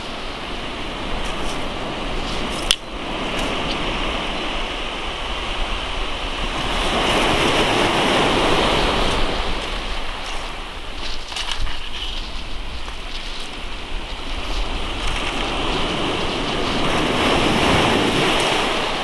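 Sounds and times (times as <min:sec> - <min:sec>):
surf breaking on shingle beach: 0:00.0 - 0:19.0.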